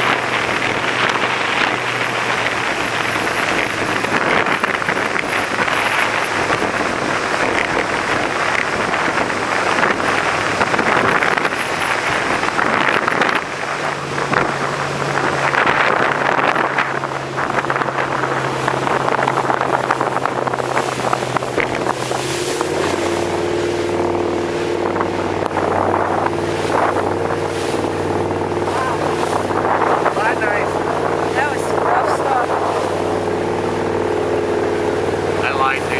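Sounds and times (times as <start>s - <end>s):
motorboat engine hum: 0.0s - 35.9s
rushing water: 0.0s - 35.9s
wind buffeting microphone: 0.0s - 35.9s.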